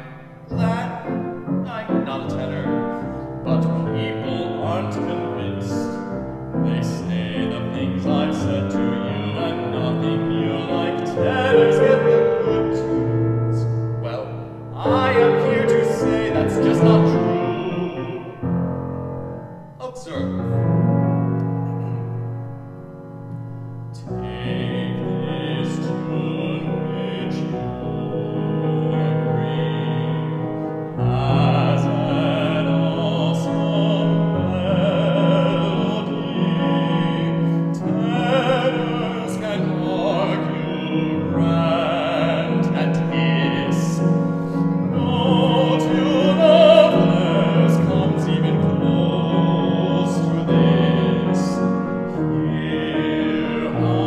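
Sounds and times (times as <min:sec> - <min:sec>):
baritone singing with vibrato: 0:00.0 - 0:22.2, 0:23.8 - 0:54.0
piano accompaniment: 0:00.0 - 0:54.0.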